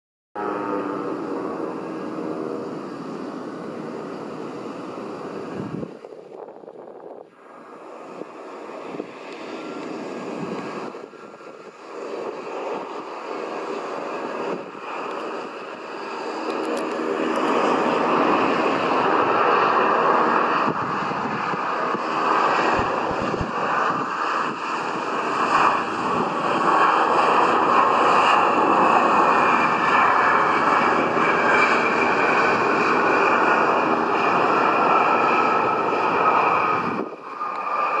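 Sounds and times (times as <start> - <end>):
jet engine whine: 0.4 - 38.0
jet engines roaring: 0.4 - 38.0.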